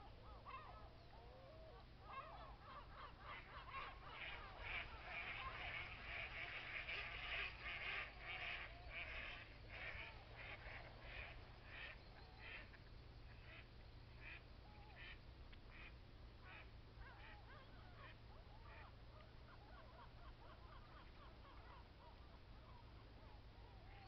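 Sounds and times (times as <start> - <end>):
geese honking in flight: 0.0 - 24.0.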